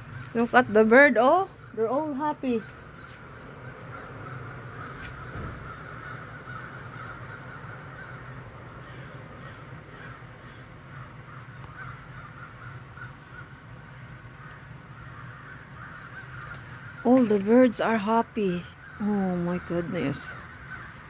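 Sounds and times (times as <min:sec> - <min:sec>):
flock of birds chattering: 0:00.0 - 0:21.0
steady low hum: 0:00.0 - 0:21.0.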